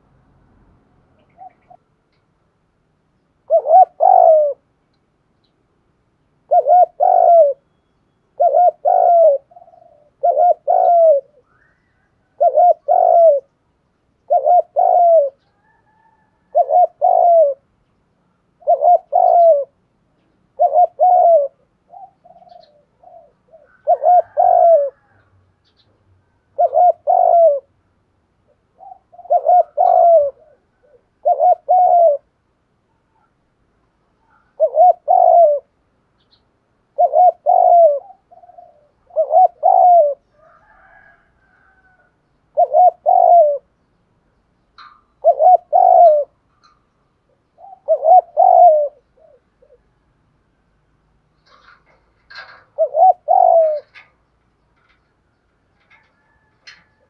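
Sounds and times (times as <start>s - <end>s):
dove cooing: 1.2s - 1.8s, 3.4s - 4.7s, 6.4s - 7.8s, 8.4s - 13.6s, 14.2s - 17.8s, 18.4s - 32.4s, 34.1s - 43.8s, 44.7s - 57.0s.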